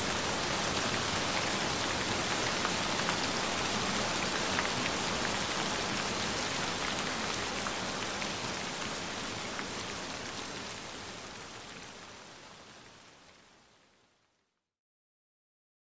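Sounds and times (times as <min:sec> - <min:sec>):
gentle rain falling: 0:00.0 - 0:14.6
rain drops: 0:00.0 - 0:14.6.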